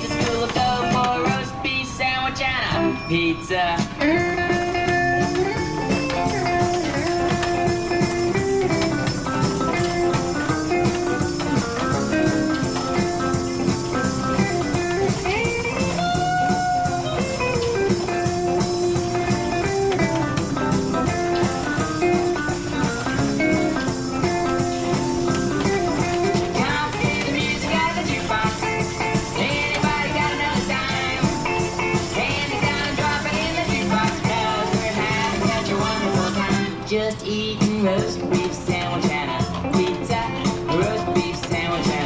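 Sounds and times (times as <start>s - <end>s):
rock and roll band backing: 0.0s - 42.0s
electric guitar bending notes: 2.7s - 37.0s.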